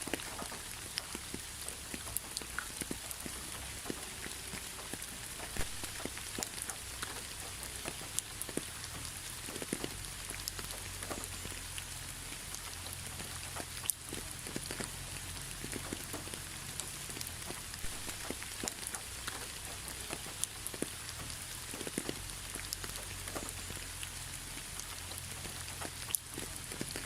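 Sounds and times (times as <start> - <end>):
rain falling: 0.0 - 27.0
raindrops ticking on a surface: 0.0 - 27.0.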